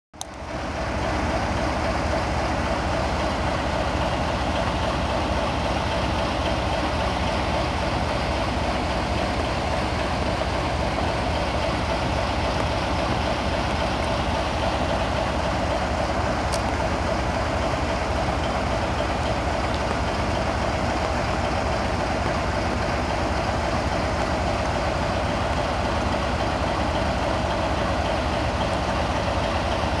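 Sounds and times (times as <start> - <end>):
diesel locomotive idling: 0.2 - 30.0.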